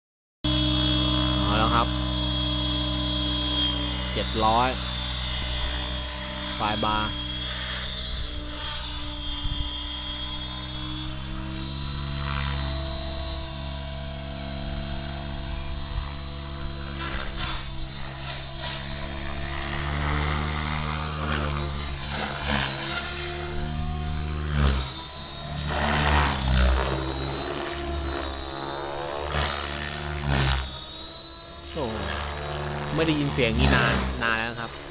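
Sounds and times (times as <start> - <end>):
high whine: 0.5 - 34.9
model helicopter rotor drone: 0.5 - 34.9.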